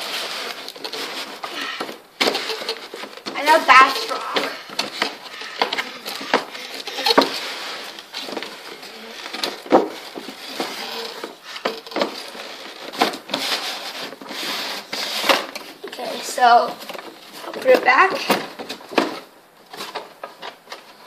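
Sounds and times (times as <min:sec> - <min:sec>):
cardboard boxes scraping: 0:00.0 - 0:21.0
cardboard rustling: 0:00.0 - 0:21.0.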